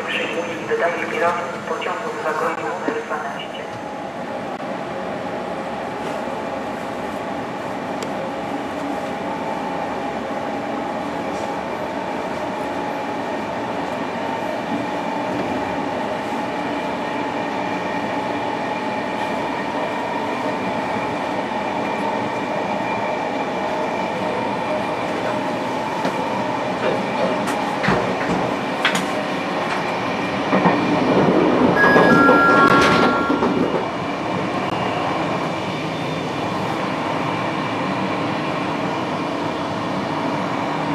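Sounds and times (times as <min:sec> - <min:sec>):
train running noise: 0:05.4 - 0:40.9.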